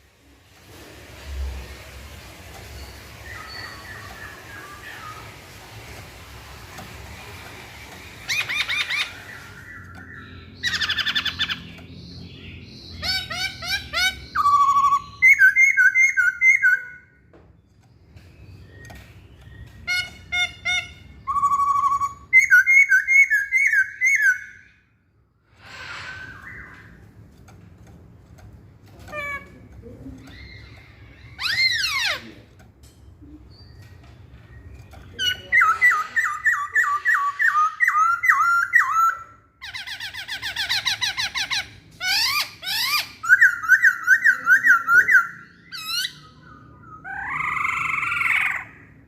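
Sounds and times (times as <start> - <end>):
bird singing chattering notes: 2.6 - 5.5, 7.9 - 24.7, 26.2 - 49.0.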